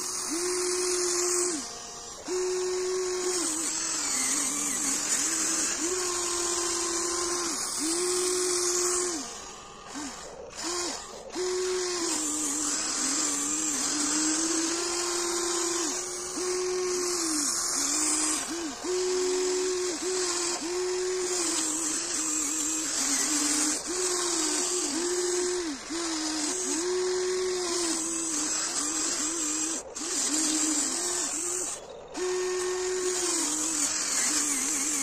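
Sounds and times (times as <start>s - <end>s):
electric actuators whining: 0.0s - 35.0s.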